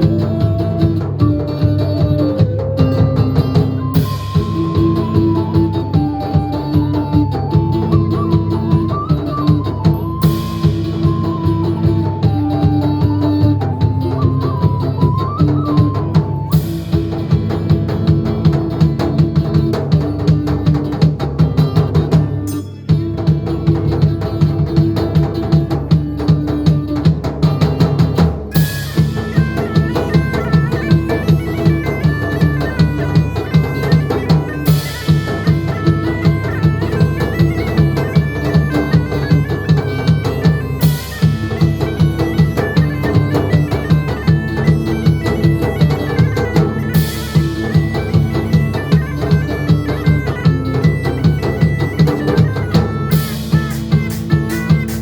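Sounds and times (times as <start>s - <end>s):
bagpipe drone: 0.0s - 17.8s, 28.6s - 55.0s
bagpipe melody: 0.0s - 20.7s, 28.6s - 55.0s
driving drum beat: 0.0s - 55.0s.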